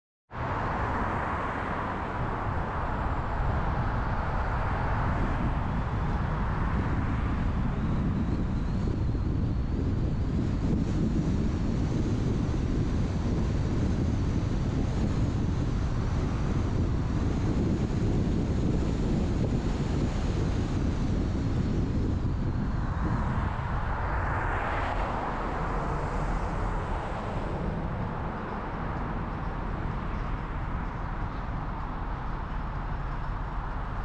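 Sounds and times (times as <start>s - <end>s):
car road noise rumble: 0.3s - 34.0s
wind buffeting microphone: 0.3s - 34.0s.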